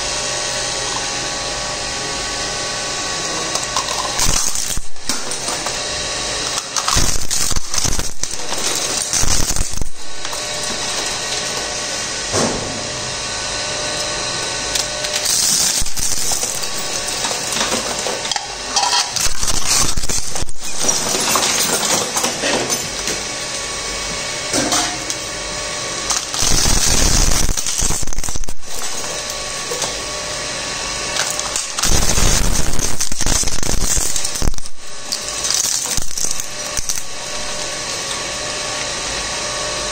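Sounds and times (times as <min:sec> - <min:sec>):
scrap crunching in shredder: 0:00.0 - 0:39.9
shredder machine drone: 0:00.0 - 0:39.9.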